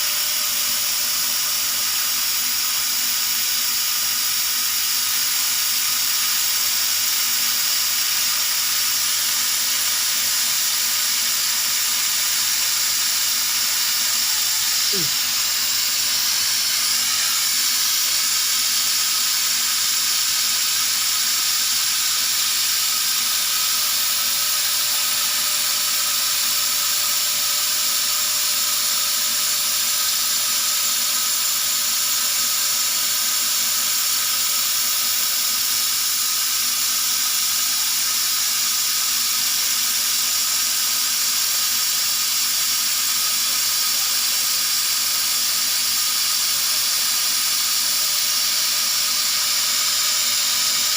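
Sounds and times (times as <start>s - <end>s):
laser cutter hissing: 0.0s - 50.9s.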